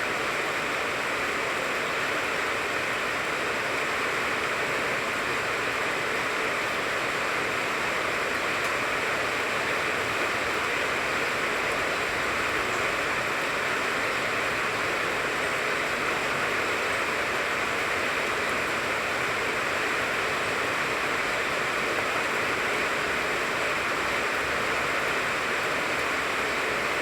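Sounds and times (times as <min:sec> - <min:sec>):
rain falling on a tree: 0:00.0 - 0:27.0.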